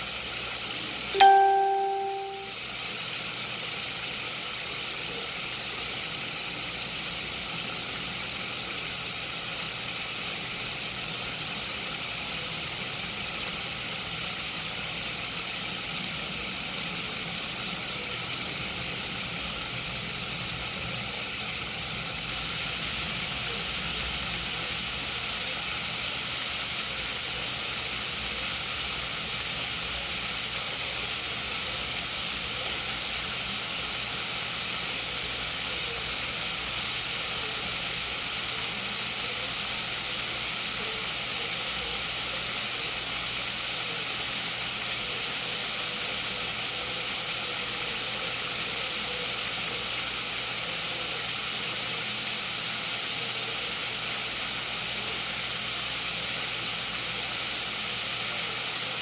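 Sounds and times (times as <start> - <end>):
chicken wings sizzling in oil: 0.0 - 59.0.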